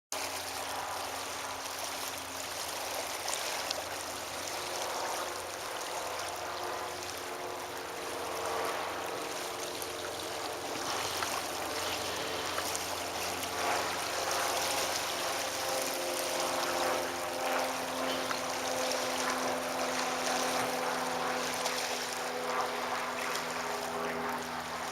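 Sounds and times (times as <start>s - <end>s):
distant floatplane engine drone: 0.2s - 24.9s
water rushing: 0.2s - 24.9s.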